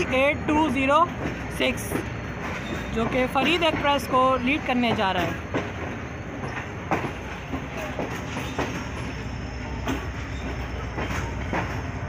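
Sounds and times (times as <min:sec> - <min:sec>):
train wheels rumbling on rails: 0:00.0 - 0:12.0
wheels clacking over rail joints: 0:00.0 - 0:12.0.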